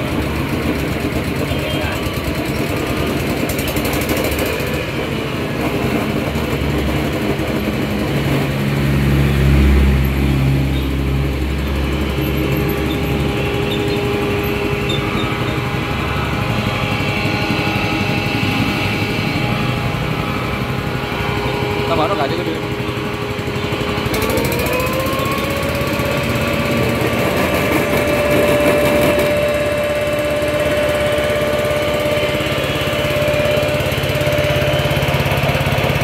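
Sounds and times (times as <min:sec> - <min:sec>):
small petrol engine running: 0:00.0 - 0:36.0.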